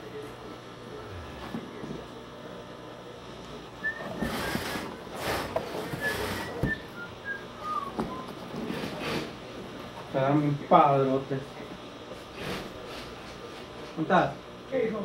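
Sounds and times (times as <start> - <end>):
background hum: 0.0 - 14.7.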